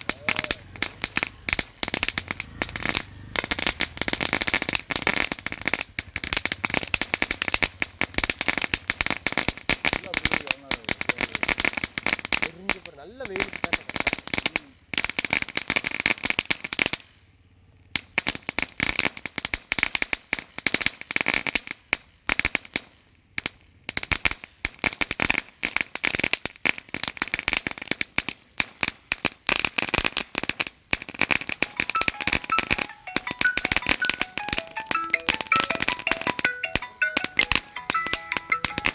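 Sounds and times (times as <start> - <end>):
firecrackers popping: 0.0 - 38.9.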